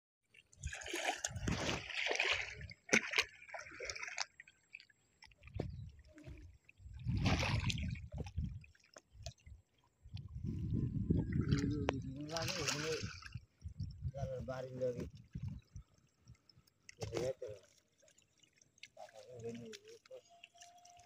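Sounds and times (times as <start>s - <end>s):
splashing in water and mud: 0.3s - 21.0s.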